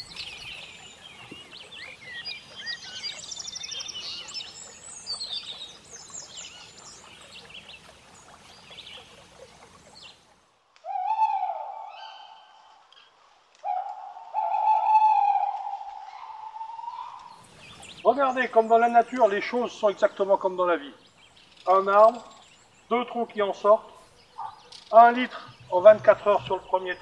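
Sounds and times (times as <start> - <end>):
faint outdoor hiss: 0.0 - 27.0
songbirds chirping and trilling: 0.0 - 27.0.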